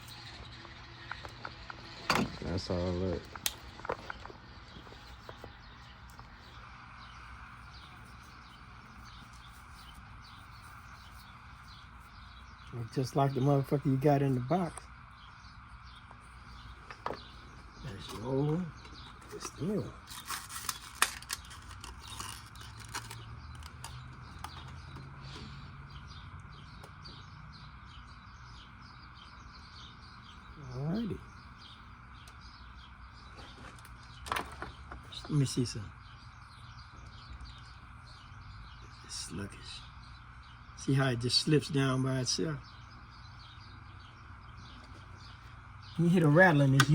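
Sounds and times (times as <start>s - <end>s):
bird chirping: 0.0s - 46.9s.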